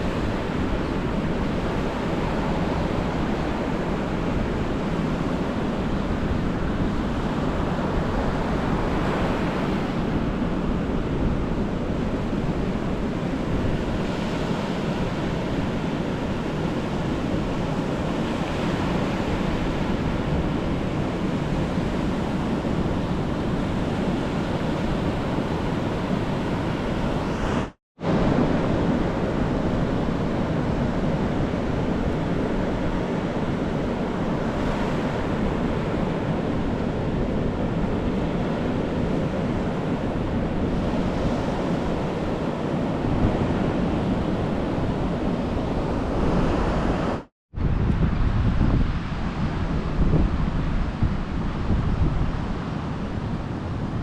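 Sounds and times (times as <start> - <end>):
ocean waves washing onto beach: 0.0 - 54.0
wind on the microphone: 0.0 - 54.0.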